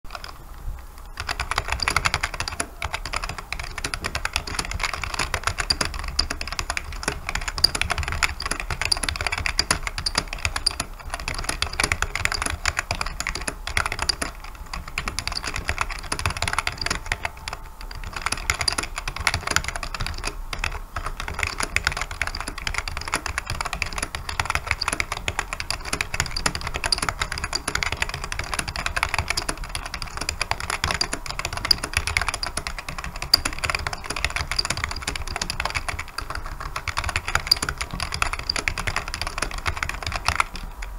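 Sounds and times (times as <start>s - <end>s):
fast keyboard typing: 0.1s - 40.9s.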